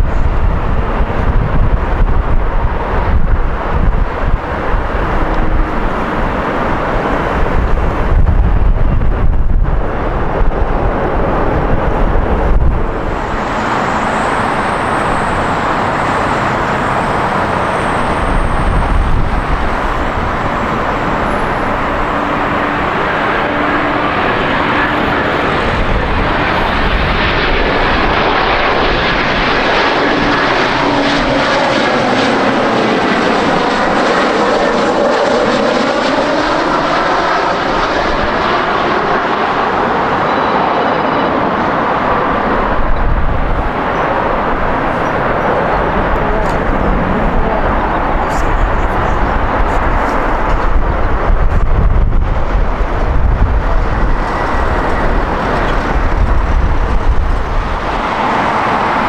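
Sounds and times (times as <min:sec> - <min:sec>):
high engine whine: 0:00.0 - 0:59.0
jet engines roaring: 0:00.0 - 0:59.0
wind buffeting microphone: 0:00.0 - 0:59.0.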